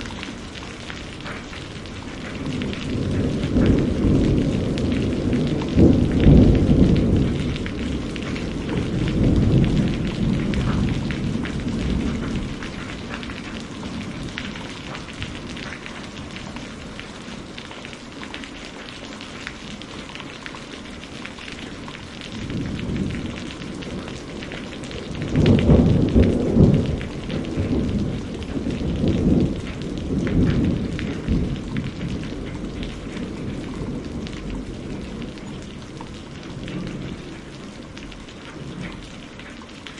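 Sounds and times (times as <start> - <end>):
rolling thunder: 0.0 - 17.5, 22.2 - 39.0
heavy rain pattering: 0.0 - 39.9.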